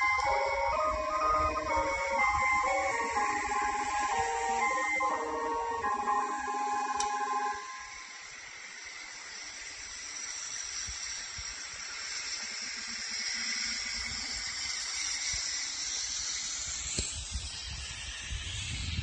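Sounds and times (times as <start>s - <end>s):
steady noise hiss: 0.0s - 19.0s.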